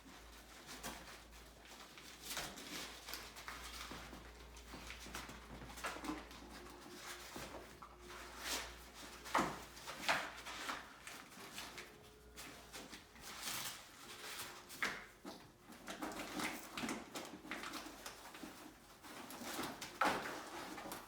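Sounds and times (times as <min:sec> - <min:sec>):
dog shredding cardboard box: 0:00.1 - 0:21.0.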